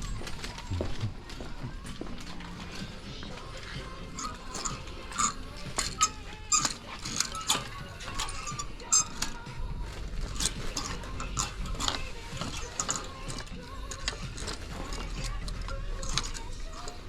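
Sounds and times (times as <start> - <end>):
small hard objects clinking: 2.2 - 17.0.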